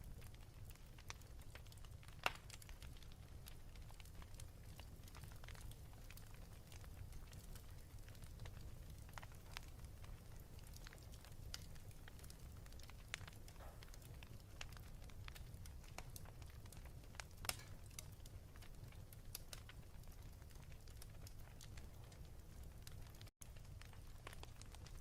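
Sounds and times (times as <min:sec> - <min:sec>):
low steady fire rumble: 0:00.0 - 0:25.0
wood fire crackling and popping: 0:00.0 - 0:25.0.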